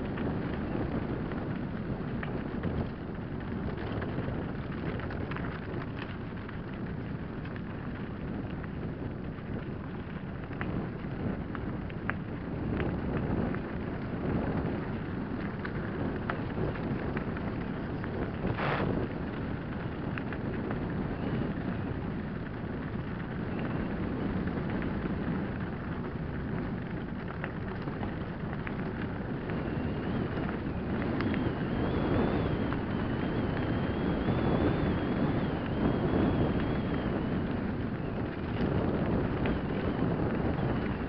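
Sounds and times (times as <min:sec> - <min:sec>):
bike tyres rumbling on gravel: 0:00.0 - 0:41.0
stones and bike rattling: 0:00.0 - 0:41.0
wind noise on microphone: 0:00.0 - 0:41.0.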